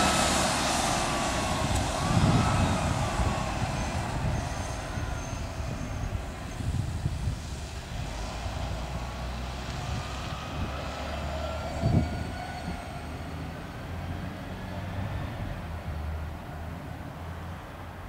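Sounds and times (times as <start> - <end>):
bus engine rumble with whine: 0.0 - 18.0.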